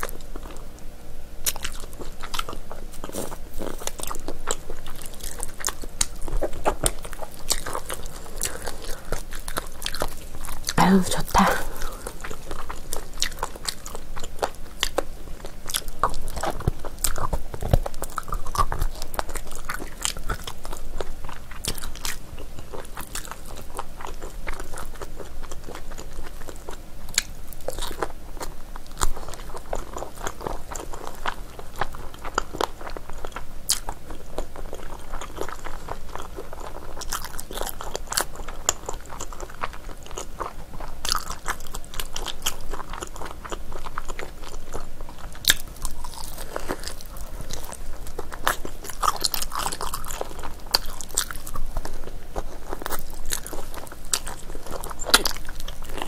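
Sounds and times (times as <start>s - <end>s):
close biting and chewing: 1.4s - 56.0s.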